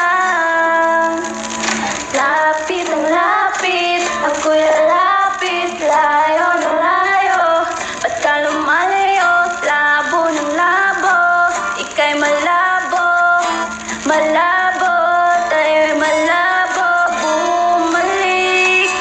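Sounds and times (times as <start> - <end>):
recorded backing track: 0.0 - 19.0
woman and girl singing karaoke: 0.0 - 19.0.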